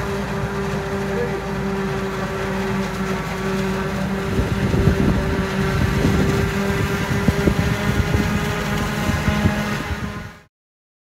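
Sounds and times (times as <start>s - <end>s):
harvester engine hum: 0.0s - 10.5s.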